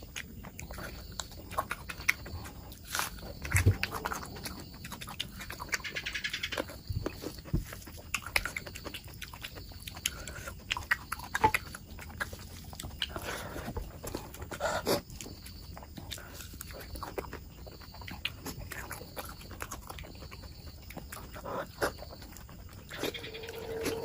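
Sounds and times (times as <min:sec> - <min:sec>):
person chewing: 0:00.0 - 0:05.9, 0:06.6 - 0:24.0.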